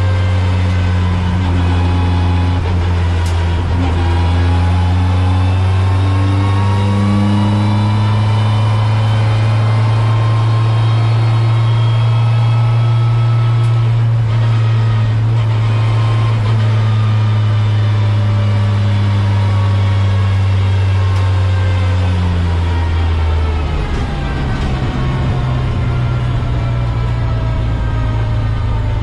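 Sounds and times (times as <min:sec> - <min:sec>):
car engine at steady revs: 0:00.0 - 0:29.0.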